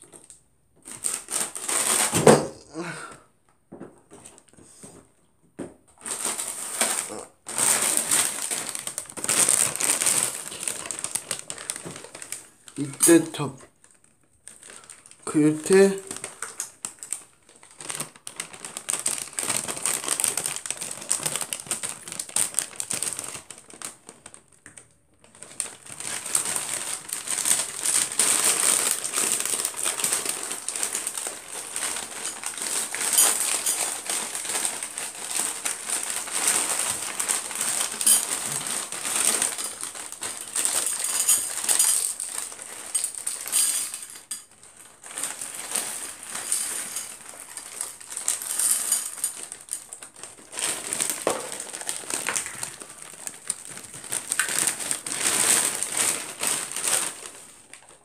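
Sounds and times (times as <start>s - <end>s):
plastic bag crinkling and rustling: 0.0s - 5.2s, 5.8s - 58.0s.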